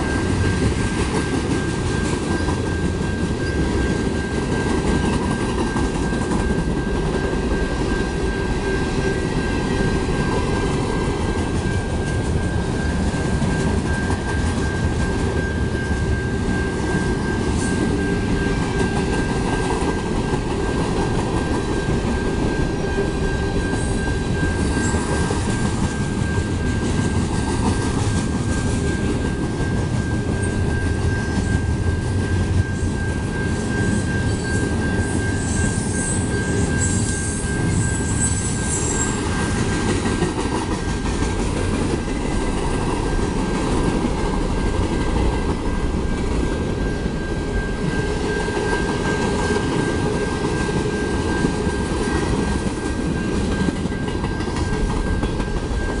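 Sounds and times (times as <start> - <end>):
crossing bell ringing: 0.0 - 56.0
freight train wheels clattering: 0.0 - 56.0.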